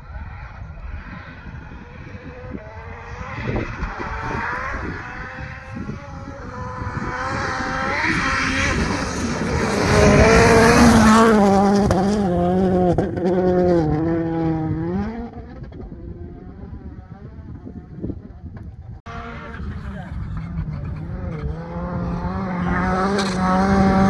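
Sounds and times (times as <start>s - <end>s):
rally car passing at speed: 0.0s - 24.0s.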